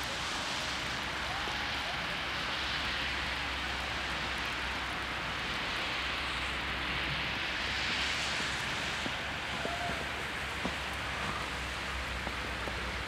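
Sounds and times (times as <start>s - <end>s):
outdoor ambience hiss: 0.0s - 13.0s.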